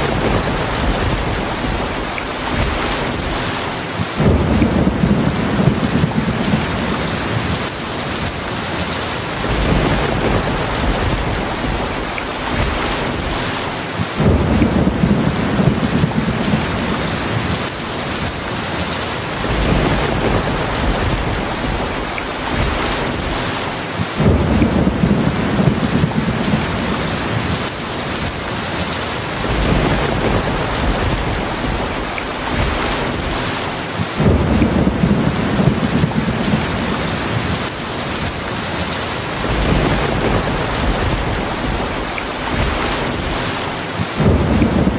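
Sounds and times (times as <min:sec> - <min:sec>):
low rolls of thunder: 0:00.0 - 0:18.4, 0:19.2 - 0:44.9
heavy rain falling: 0:00.0 - 0:44.9.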